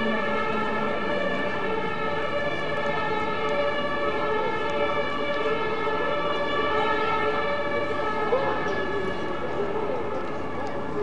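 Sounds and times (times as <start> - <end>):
loud steady multi-tone drone: 0.0 - 11.0.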